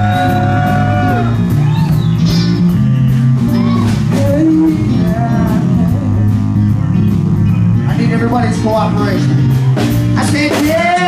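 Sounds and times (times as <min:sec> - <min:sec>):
live band jamming: 0:00.0 - 0:11.0.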